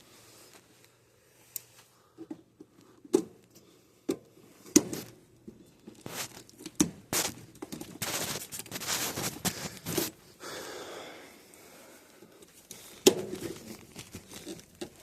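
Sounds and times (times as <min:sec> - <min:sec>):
rustling of wires: 0:00.0 - 0:03.7, 0:04.4 - 0:10.4, 0:11.4 - 0:15.0.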